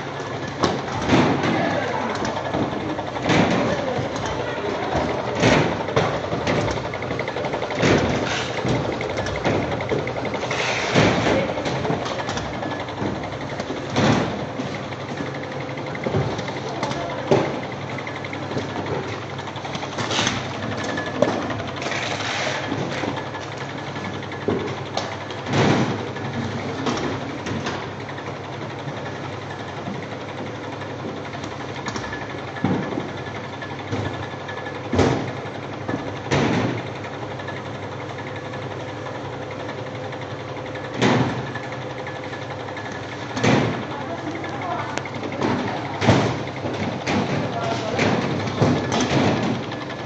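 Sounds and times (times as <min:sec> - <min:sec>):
labeling machine motor hum: 0:00.0 - 0:50.0.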